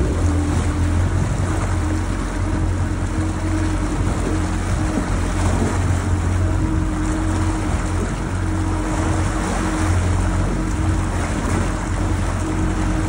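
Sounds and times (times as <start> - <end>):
churning wake rushing: 0.0 - 13.0
outboard motor droning: 0.0 - 13.0
wind: 0.0 - 13.0.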